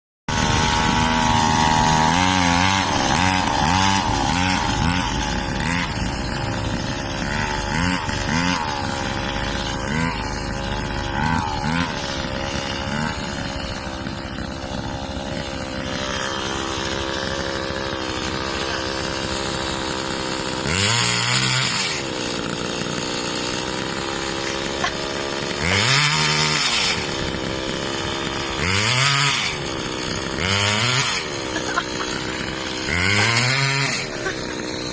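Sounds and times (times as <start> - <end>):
small engine running and revving: 0.3 - 34.9.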